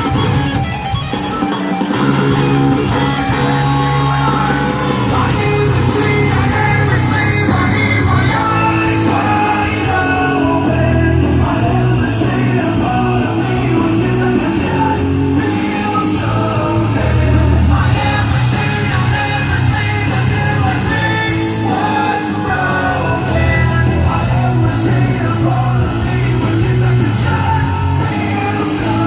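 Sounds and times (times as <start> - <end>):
rock band playing live: 0.0 - 29.0
person singing: 2.9 - 29.0.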